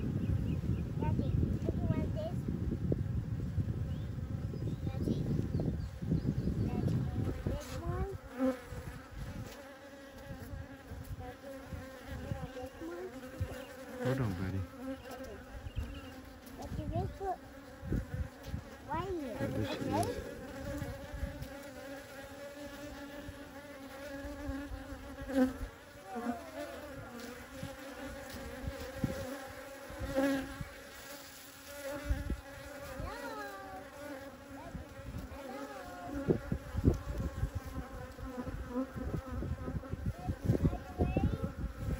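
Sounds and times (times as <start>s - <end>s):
honey bees buzzing: 3.9s - 41.9s.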